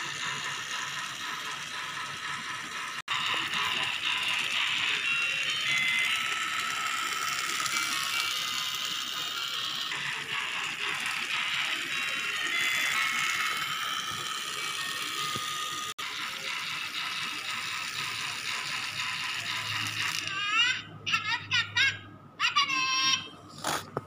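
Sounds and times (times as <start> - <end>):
toy train motor whirring: 0.0 - 24.0.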